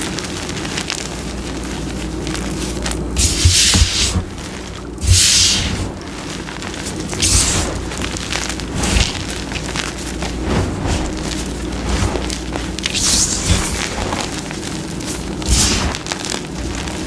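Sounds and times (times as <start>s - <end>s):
chalk crunching and crumbling: 0.0s - 17.0s
low rumble: 2.3s - 17.0s
falling chalk rush: 2.5s - 17.0s.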